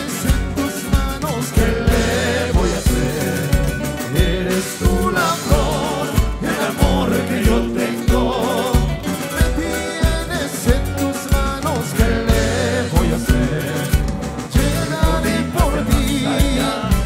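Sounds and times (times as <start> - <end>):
festive dance music: 0.0 - 17.0.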